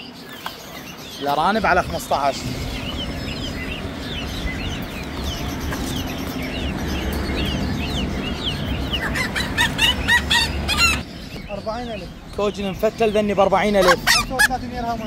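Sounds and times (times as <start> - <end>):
small birds chirping: 0.0 - 15.0
chickens clucking: 0.3 - 15.0.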